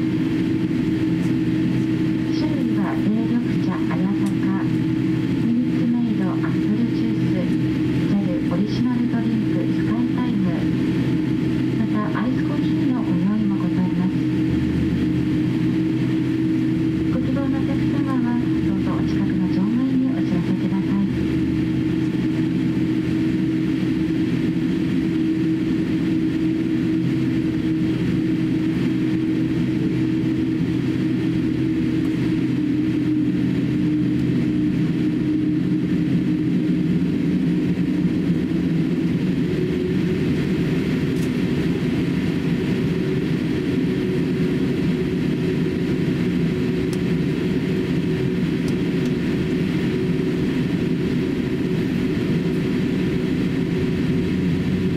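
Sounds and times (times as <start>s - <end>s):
jet engines humming at taxi power: 0.0s - 54.9s.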